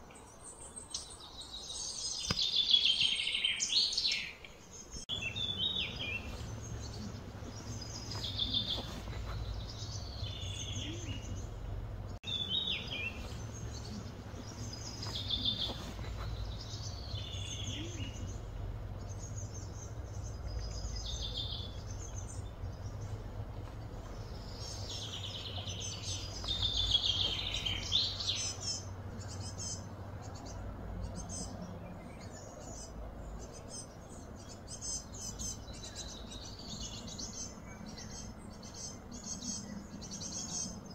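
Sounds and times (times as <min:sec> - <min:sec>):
birds chirping: 0:00.0 - 0:40.9
steady low hum: 0:04.7 - 0:40.9.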